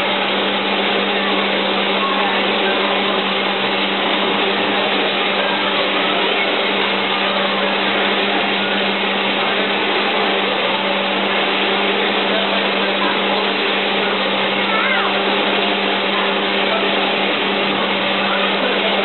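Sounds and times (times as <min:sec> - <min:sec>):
machine motor whirring: 0:00.0 - 0:19.0.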